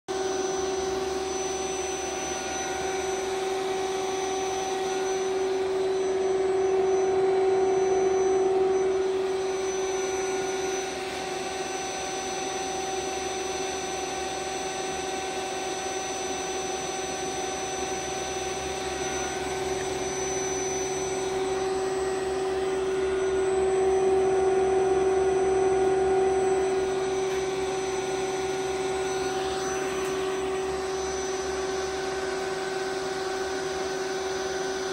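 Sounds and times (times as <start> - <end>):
servo motor electric whine: 0.1 - 34.9.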